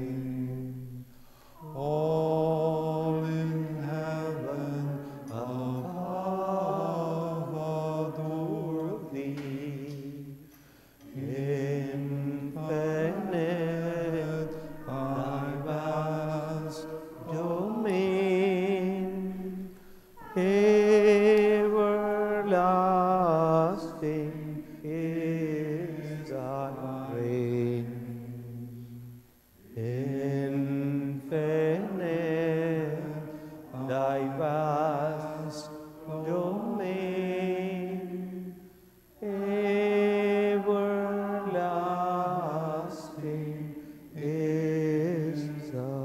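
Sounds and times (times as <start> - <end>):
person singing a slow hymn: 0.0 - 46.0.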